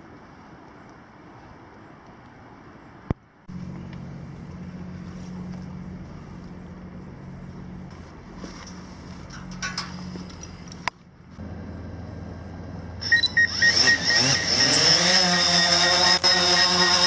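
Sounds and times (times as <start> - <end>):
low engine hum: 3.1 - 17.0.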